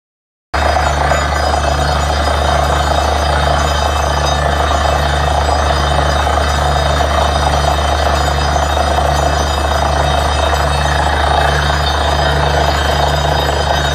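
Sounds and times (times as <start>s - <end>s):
drilling rig droning: 0.6s - 13.9s.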